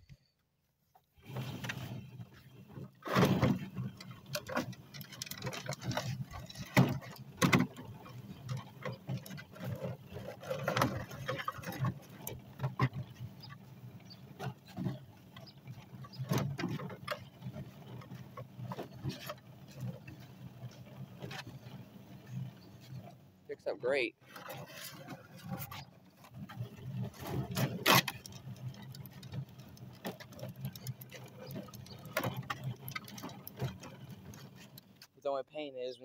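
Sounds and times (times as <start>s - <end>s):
clacks and knocks: 3.0s - 23.2s, 24.2s - 35.2s.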